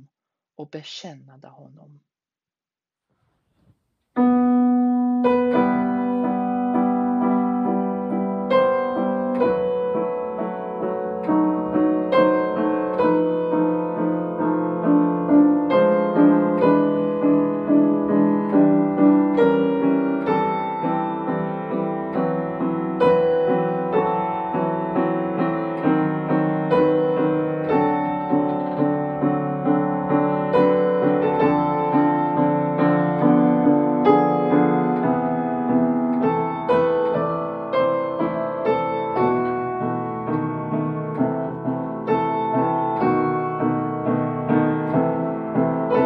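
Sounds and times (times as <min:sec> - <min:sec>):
upright piano chords: 0:04.2 - 0:46.0.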